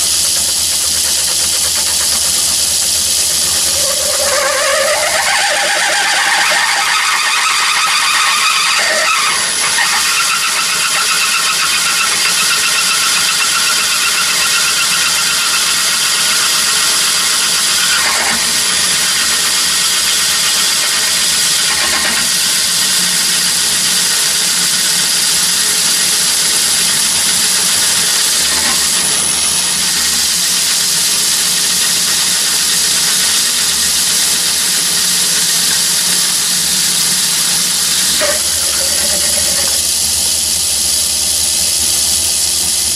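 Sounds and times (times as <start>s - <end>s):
drill cutting high-pitched whine: 0.0s - 42.9s
lathe running: 0.0s - 42.9s.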